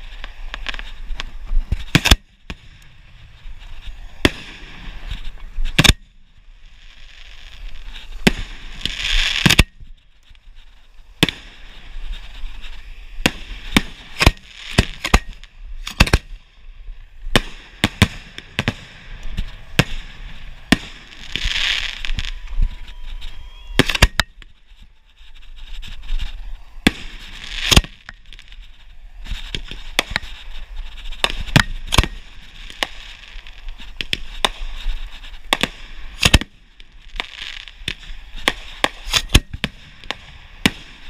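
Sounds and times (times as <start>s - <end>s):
fireworks bangs: 0.0s - 41.0s
fireworks hiss: 0.0s - 41.0s.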